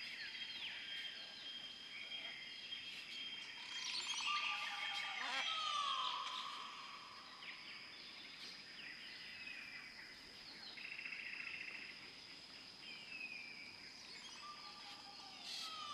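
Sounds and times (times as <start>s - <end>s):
faint birdsong: 0.0s - 15.9s.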